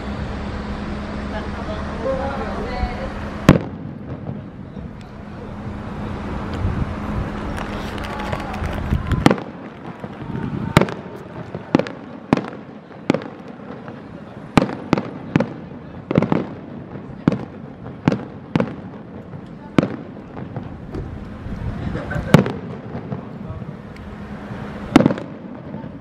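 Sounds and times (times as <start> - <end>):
fireworks bursting overhead: 0.0 - 26.0.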